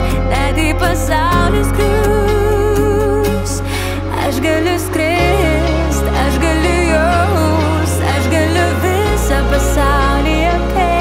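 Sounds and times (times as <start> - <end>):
pop song: 0.0 - 11.0.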